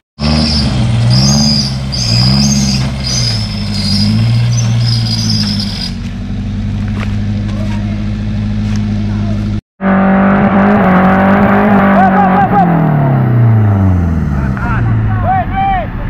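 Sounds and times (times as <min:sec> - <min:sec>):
off-road engine revving: 0:00.2 - 0:16.0.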